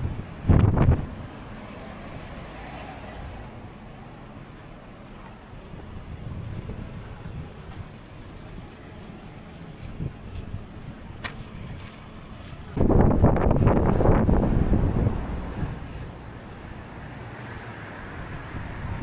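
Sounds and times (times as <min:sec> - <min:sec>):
low outdoor rumble: 0:00.0 - 0:17.3.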